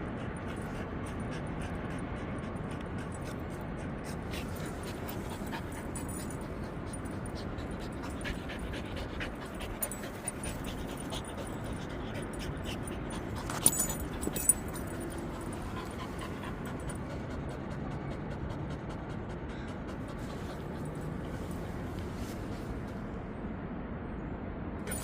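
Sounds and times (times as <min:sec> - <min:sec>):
dog panting: 0:00.0 - 0:22.2.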